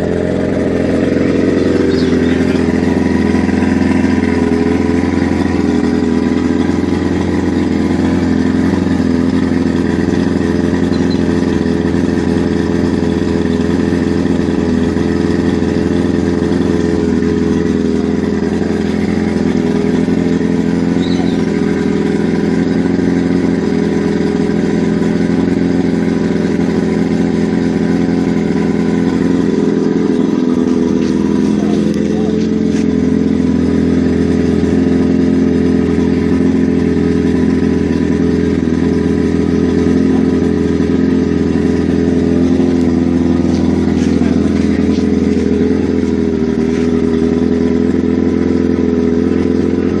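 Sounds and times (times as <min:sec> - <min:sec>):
outboard motor running: 0:00.0 - 0:50.0.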